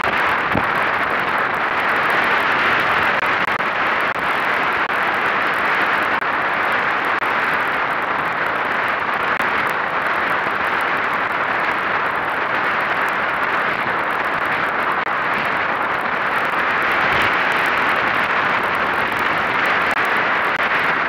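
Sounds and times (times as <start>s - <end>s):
water rushing: 0.0s - 21.0s
wind: 0.0s - 21.0s.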